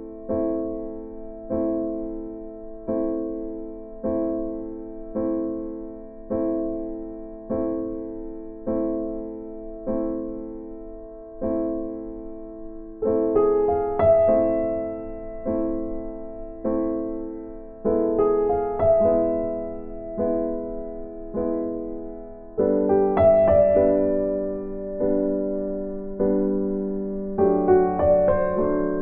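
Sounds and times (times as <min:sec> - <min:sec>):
soft piano slow chords: 0:00.0 - 0:29.0.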